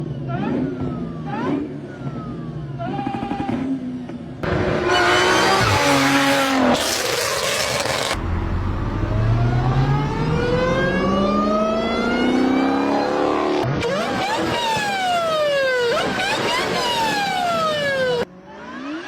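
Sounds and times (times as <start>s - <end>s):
car engines accelerating: 0.0s - 19.0s.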